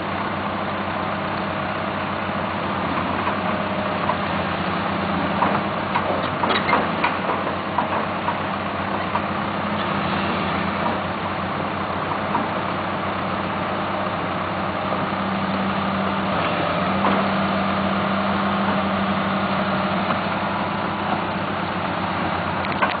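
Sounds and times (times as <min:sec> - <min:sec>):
excavator diesel engine idling: 0:00.0 - 0:23.0.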